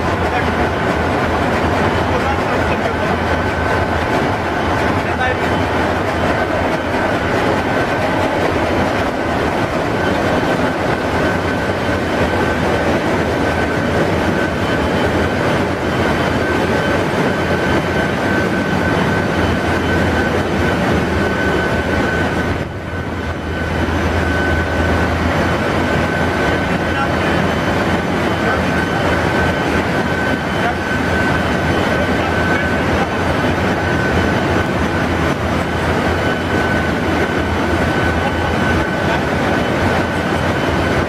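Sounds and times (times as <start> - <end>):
engine room machinery din: 0.0 - 41.0
high whine: 0.0 - 41.0.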